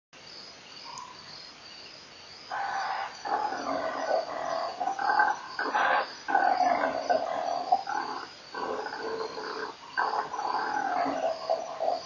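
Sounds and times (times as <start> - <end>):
crickets chirping: 0.2 - 12.0.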